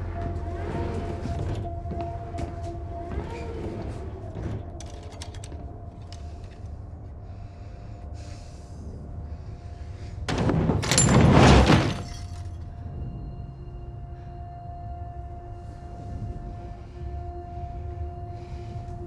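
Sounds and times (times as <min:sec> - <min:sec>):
train rumble and hum: 0:00.0 - 0:19.0.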